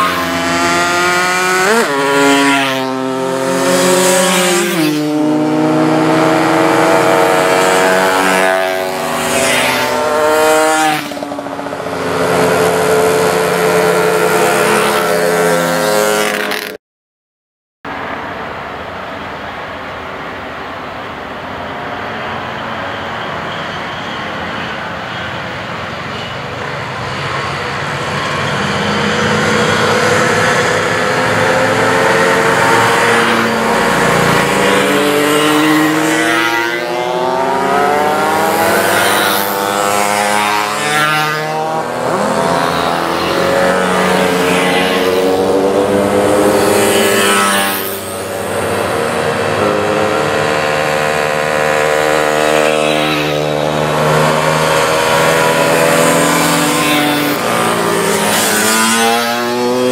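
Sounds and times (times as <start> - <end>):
mopeds riding past: 0.0 - 16.8, 26.8 - 59.9.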